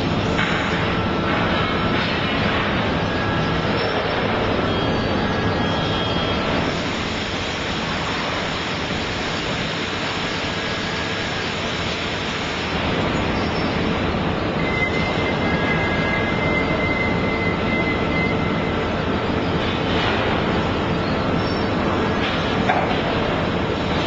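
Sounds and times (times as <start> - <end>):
forklift mechanical running noise: 0.0 - 24.0.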